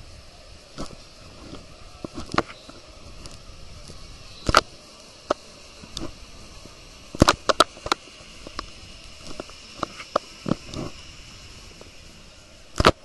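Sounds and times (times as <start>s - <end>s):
faint steady hiss: 0.0s - 13.0s
sharp clicks and knocks: 0.8s - 11.0s, 12.7s - 13.0s.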